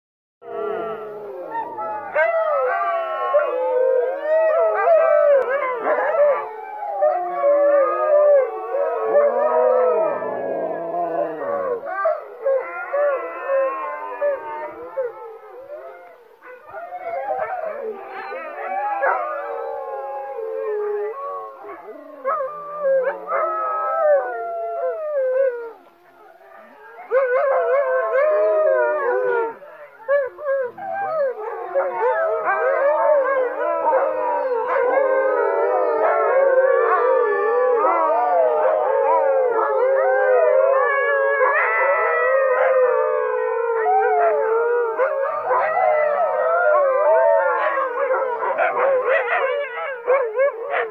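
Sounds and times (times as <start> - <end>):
huskies howling in chorus: 0.4 - 50.9.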